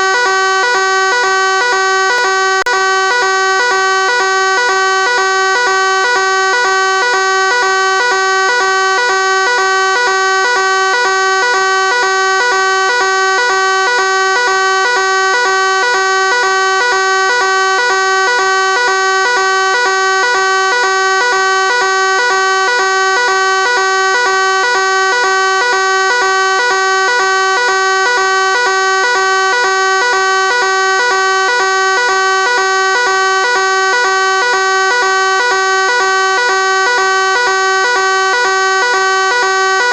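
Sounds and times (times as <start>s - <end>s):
fire alarm buzzing: 0.0s - 39.9s.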